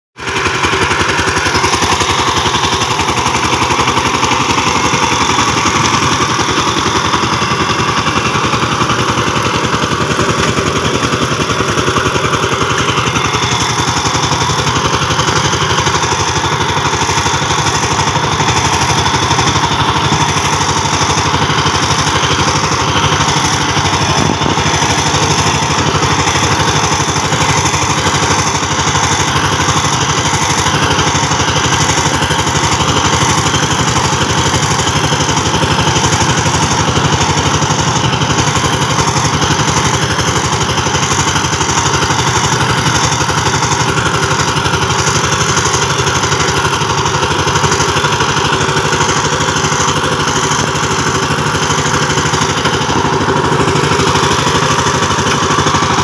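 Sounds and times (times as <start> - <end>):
diesel tiller engine chugging: 0.2 - 56.0.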